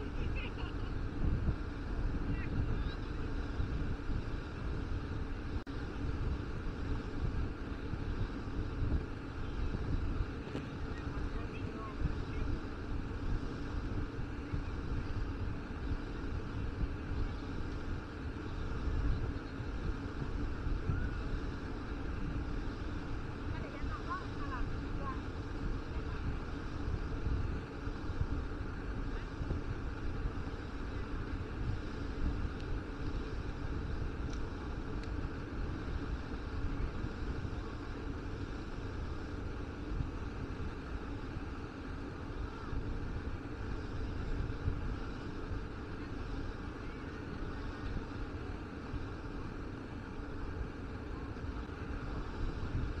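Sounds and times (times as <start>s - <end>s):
open-air ambience hiss: 0.0s - 53.0s
wind rumbling on microphone: 0.0s - 53.0s.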